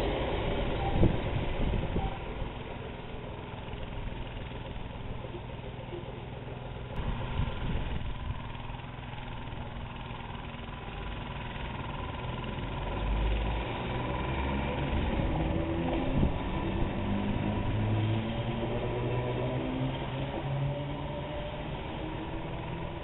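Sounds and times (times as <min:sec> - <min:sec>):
electric train pulling away: 0:00.0 - 0:23.0.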